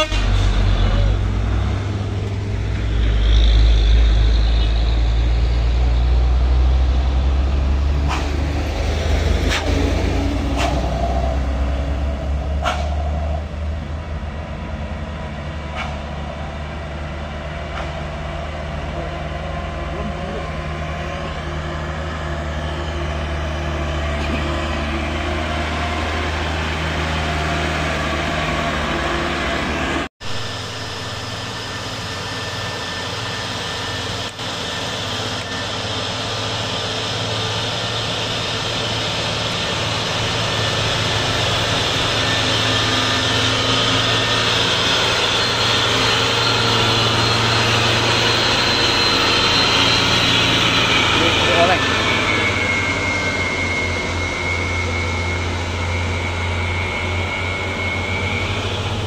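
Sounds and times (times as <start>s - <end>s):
diesel truck engines droning: 0.0s - 59.0s.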